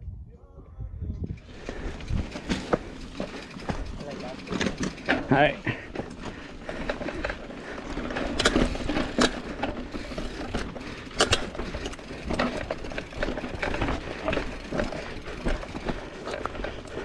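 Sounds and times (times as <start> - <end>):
bike parts rattling and clicking: 1.3 - 17.0
tyres rumbling on rock: 2.0 - 17.0
wheels knocking on rock: 2.3 - 17.0.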